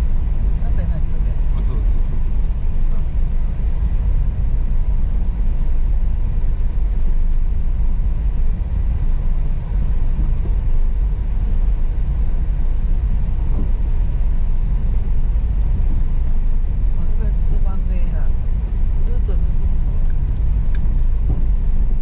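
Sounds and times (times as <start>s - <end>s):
car driving on rough road: 0.0s - 22.0s.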